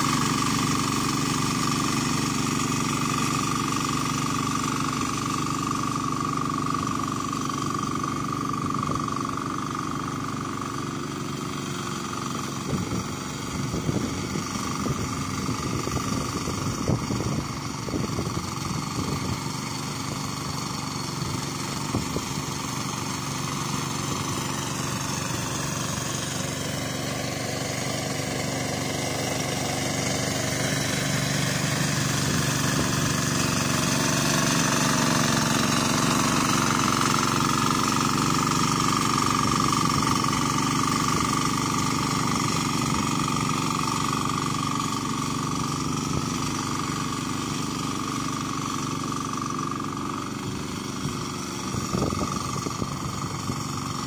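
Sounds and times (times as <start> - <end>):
diesel tiller engine running: 0.0 - 54.0.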